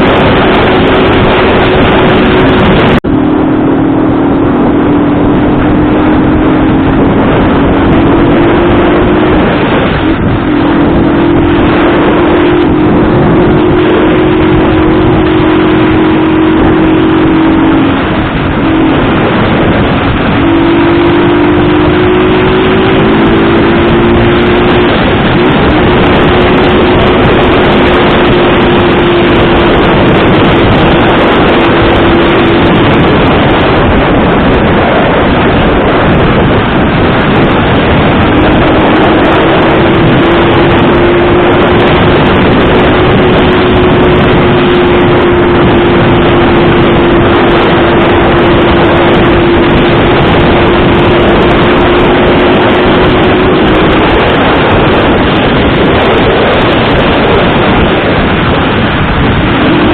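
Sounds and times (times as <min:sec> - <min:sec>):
motorcycle engine: 0:00.0 - 0:59.9
wind rush on microphone: 0:00.0 - 0:59.9.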